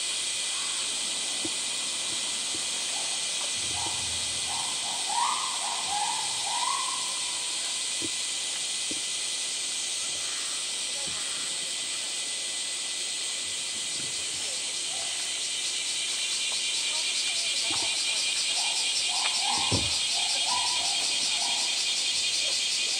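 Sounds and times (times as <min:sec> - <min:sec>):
cicadas droning: 0:00.0 - 0:22.9
short rising insect calls: 0:00.0 - 0:22.9.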